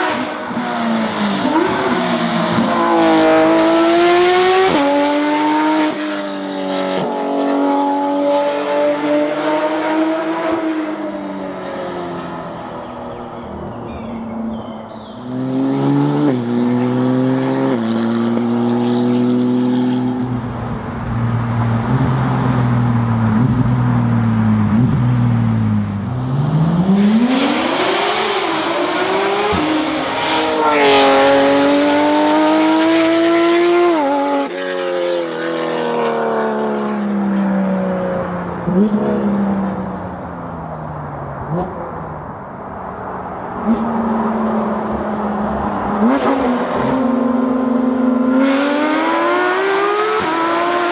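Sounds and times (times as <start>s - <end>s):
sports car engine revving: 0.0s - 34.9s, 37.1s - 50.9s.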